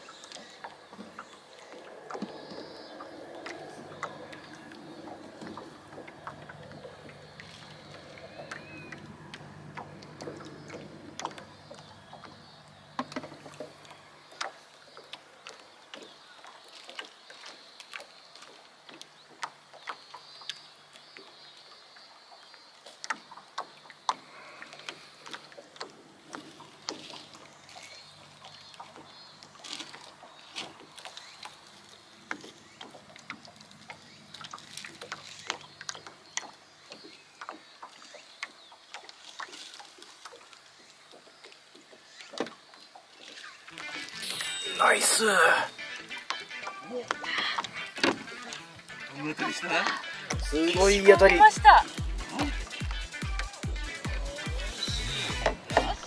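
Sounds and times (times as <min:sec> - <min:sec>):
water lapping: 0:00.0 - 0:44.3, 0:45.7 - 0:56.0.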